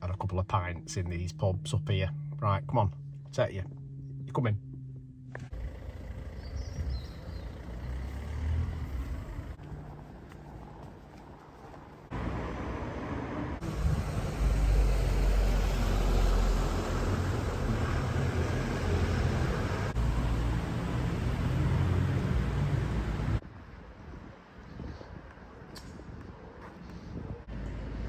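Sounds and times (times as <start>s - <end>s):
traffic engine rumble: 0.0s - 23.5s, 27.2s - 28.0s.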